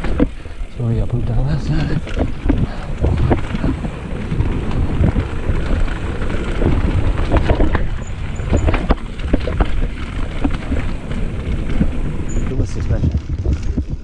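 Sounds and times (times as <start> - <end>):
bike knocks and rattles: 0.0 - 14.0
bike tyres rumbling on dirt: 0.0 - 14.0
wind buffeting microphone: 0.0 - 14.0.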